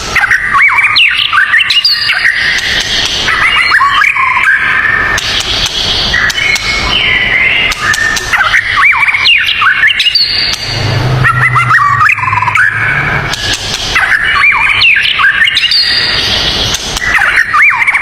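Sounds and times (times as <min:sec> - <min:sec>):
bird singing whistles: 0:00.2 - 0:18.0.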